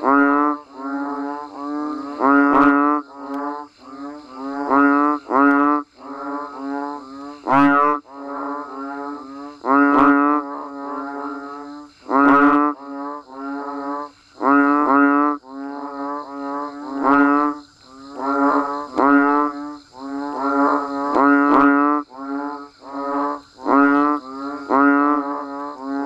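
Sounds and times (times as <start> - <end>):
frogs calling: 0.0 - 26.0.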